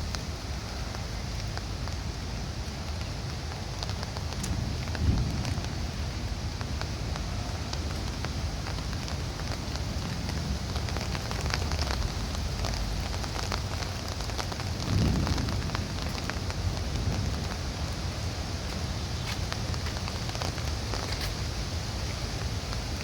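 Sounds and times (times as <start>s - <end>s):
heavy rain falling: 0.0s - 23.0s
raindrops ticking close by: 0.0s - 23.0s.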